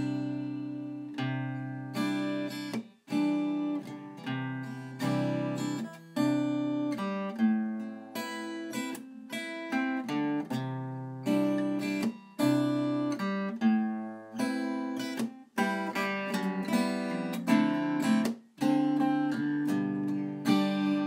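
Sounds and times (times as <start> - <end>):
plucked string instrumental music: 0.0 - 21.0.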